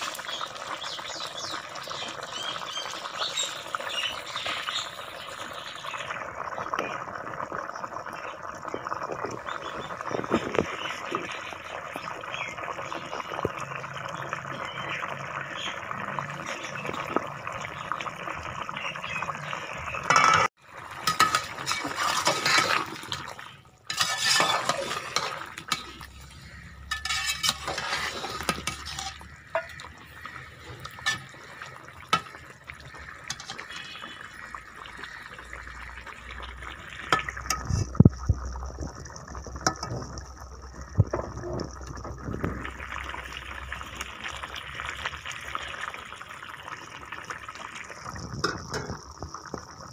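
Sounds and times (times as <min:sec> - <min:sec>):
water bubbling in a pot: 0:00.0 - 0:49.9.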